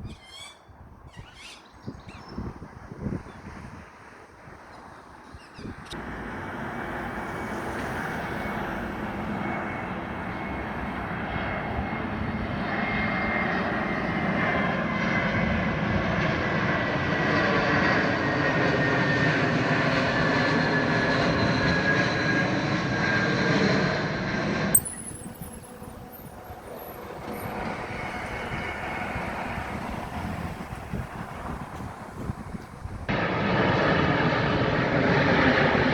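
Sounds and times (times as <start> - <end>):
airliner flying over: 0.0 - 35.9.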